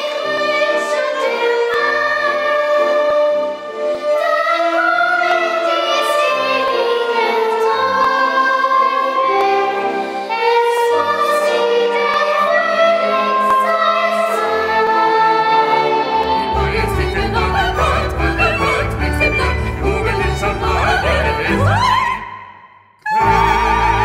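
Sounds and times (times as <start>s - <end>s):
children's choir singing: 0.0s - 22.3s, 23.0s - 24.0s
instrumental accompaniment: 0.0s - 24.0s.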